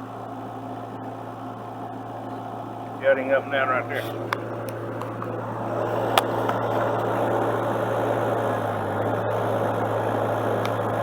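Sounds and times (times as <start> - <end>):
excavator engine idling: 0.0 - 11.0.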